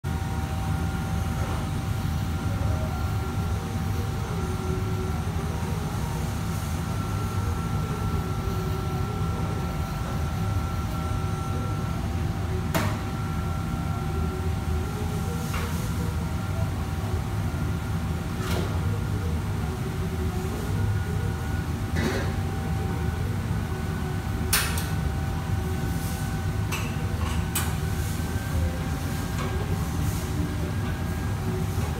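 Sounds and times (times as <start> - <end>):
low rumble of gas burners: 0.0 - 31.9.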